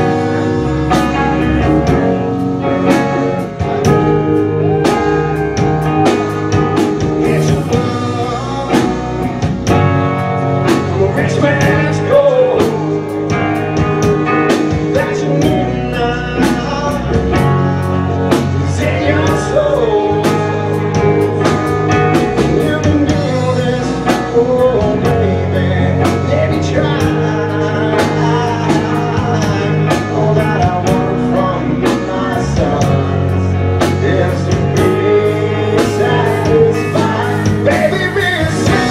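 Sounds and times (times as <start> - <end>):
person singing: 0.0 - 9.9, 10.5 - 38.9
drum kit beat: 0.0 - 38.9
electric guitar: 0.0 - 38.9
live rock band playing: 0.0 - 38.9.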